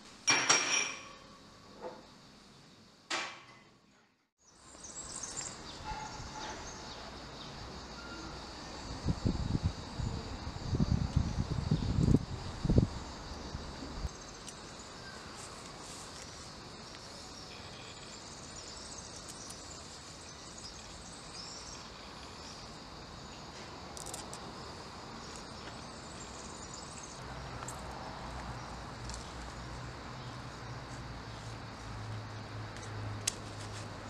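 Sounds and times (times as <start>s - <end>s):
insect chorus chirring: 4.4s - 34.0s.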